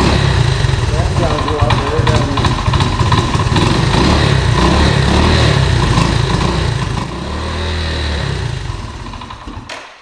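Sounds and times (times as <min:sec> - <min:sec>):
engine running and dying: 0:00.0 - 0:09.7.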